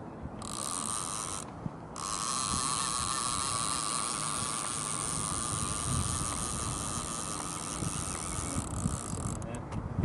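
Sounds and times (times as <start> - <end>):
fishing reel whirring: 0.4 - 9.5.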